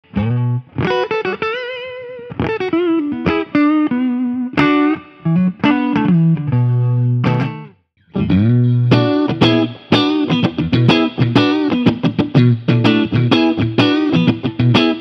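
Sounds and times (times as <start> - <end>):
electric guitar chord stabs and notes: 0.1 - 15.0.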